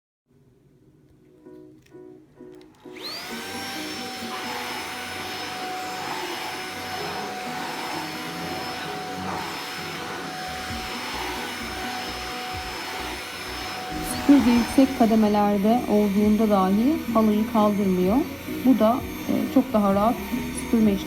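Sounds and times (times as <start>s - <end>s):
stick vacuum motor whine: 2.6s - 21.0s
vacuum rushing air over rug: 2.9s - 21.0s.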